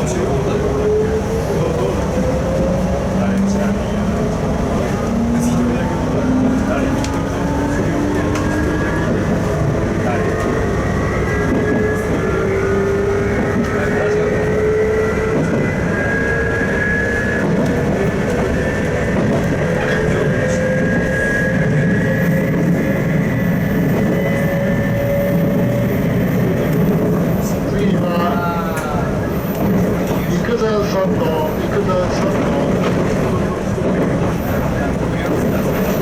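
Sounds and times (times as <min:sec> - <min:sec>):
train running rumble: 0:00.0 - 0:36.0.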